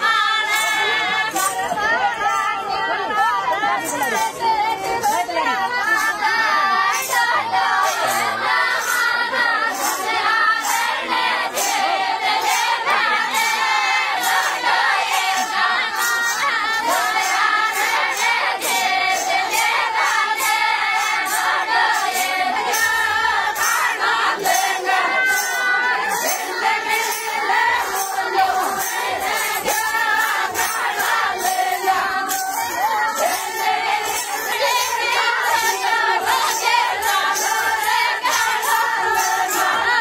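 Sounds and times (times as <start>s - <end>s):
jingling tongs beat: 0.0s - 40.0s
women singing folk song: 0.0s - 40.0s.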